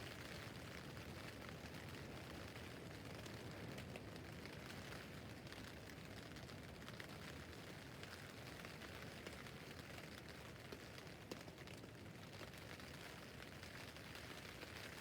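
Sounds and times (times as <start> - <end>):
rain on a tent: 0.0 - 15.0.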